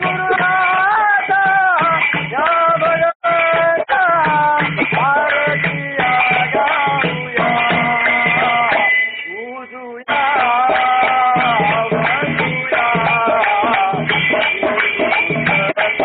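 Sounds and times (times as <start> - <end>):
devotional song melody: 0.0 - 16.0.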